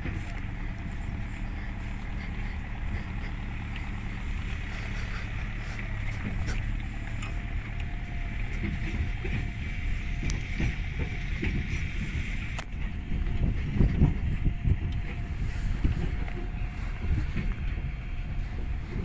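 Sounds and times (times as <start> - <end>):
farm vehicle engine running: 0.0 - 19.0
wind buffeting microphone: 0.0 - 19.0.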